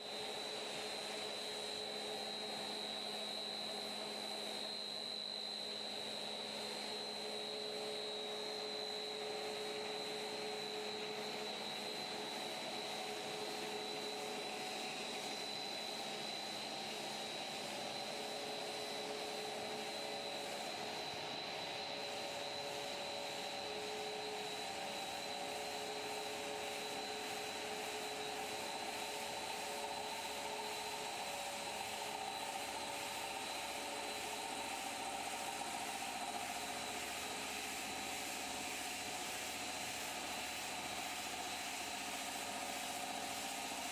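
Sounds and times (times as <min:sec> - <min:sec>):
machine motor hum and whine: 0:00.1 - 0:43.9.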